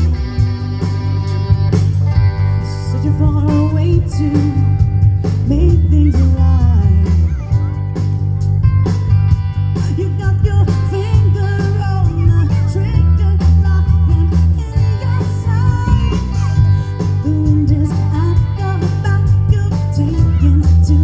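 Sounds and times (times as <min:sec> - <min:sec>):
bass guitar: 0:00.0 - 0:21.0
drums with steady beat: 0:00.0 - 0:21.0
electric guitar: 0:00.0 - 0:21.0
person singing: 0:02.3 - 0:08.0, 0:09.8 - 0:21.0.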